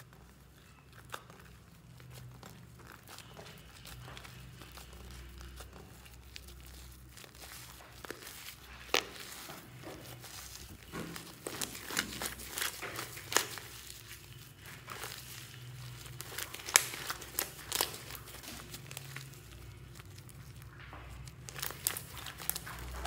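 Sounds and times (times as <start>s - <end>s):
slime crackling and squishing: 0.0s - 23.0s.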